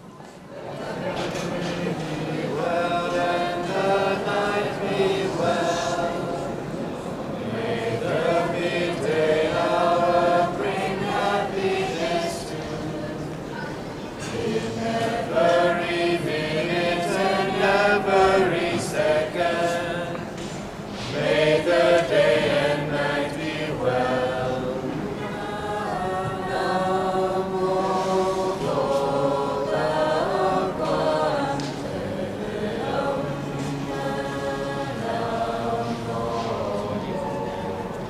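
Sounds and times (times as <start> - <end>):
group chanting: 0.7 - 38.0.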